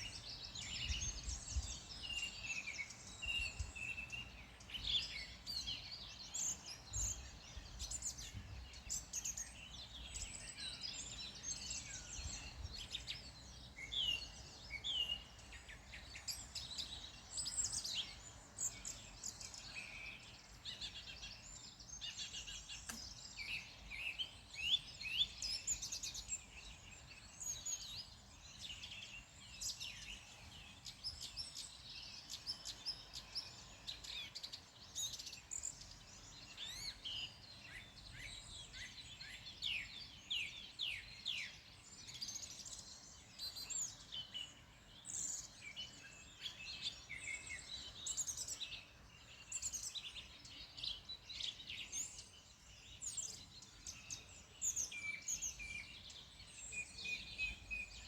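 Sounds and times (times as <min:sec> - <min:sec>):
birds chirping and trilling: 0:00.1 - 0:58.0.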